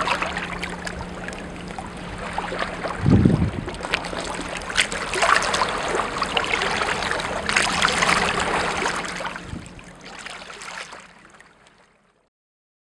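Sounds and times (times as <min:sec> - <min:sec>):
water splashing and lapping: 0:00.0 - 0:12.1
low engine hum: 0:00.0 - 0:12.3.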